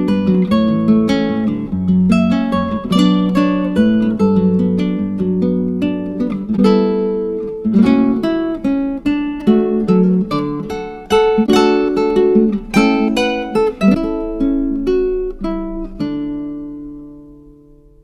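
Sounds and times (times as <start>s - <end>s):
plucked guitar-like string melody: 0.0s - 18.0s.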